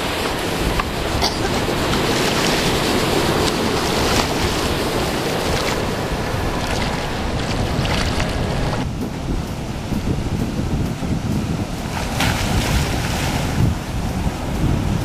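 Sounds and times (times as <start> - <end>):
sea water washing: 0.0 - 15.0
wind noise on microphone: 0.0 - 15.0.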